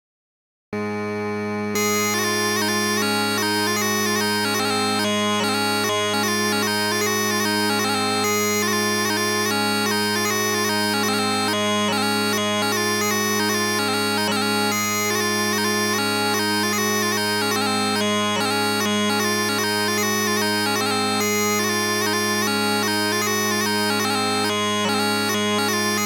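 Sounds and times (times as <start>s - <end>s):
bagpipes playing a lively tune: 0.8s - 26.0s.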